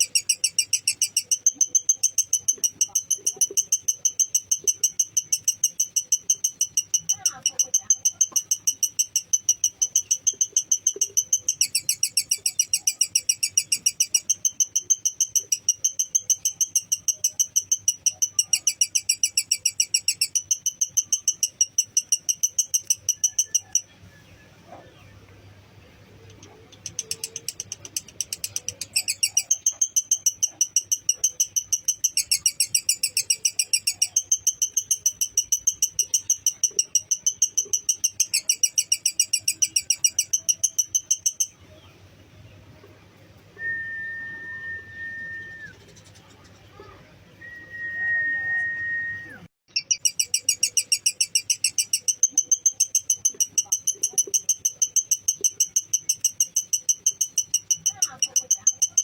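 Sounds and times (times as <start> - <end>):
lovebird chattering shrill notes: 0.0 - 23.9, 26.4 - 41.6, 49.7 - 59.0.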